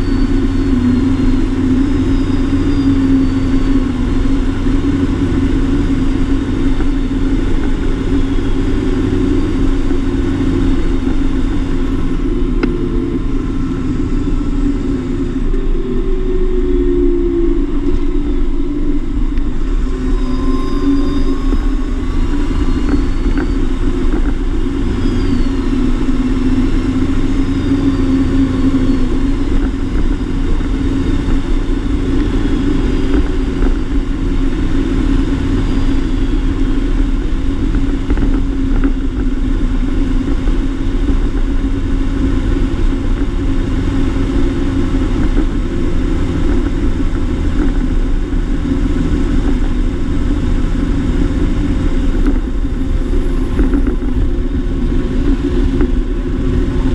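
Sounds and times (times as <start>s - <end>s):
rumble of moving rig: 0.0s - 56.9s
tractor diesel engine under load: 0.0s - 56.9s.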